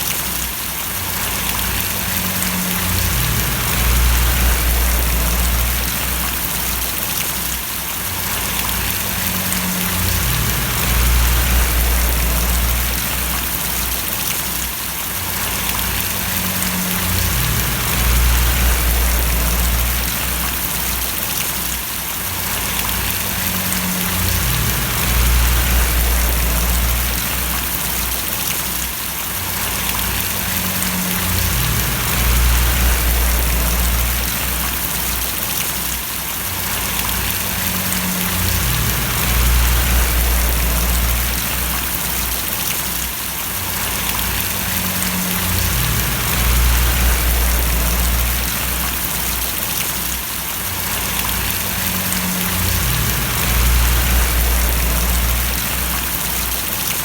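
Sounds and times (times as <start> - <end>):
rain splashing: 0.0 - 57.0
low rumble: 1.2 - 7.0, 8.2 - 14.4, 15.2 - 21.3, 22.4 - 28.5, 29.4 - 35.4, 36.7 - 42.7, 43.7 - 49.8, 50.8 - 56.9.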